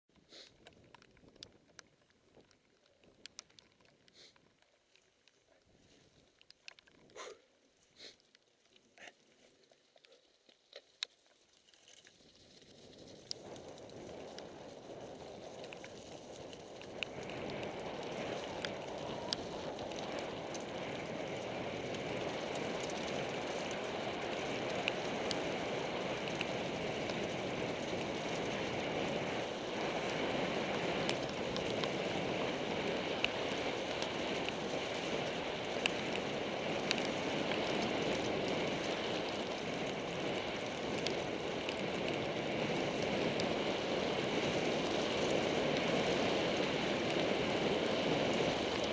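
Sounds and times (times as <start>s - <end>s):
rain: 0.2s - 48.9s
bike tyres rushing on wet trail: 7.9s - 48.9s.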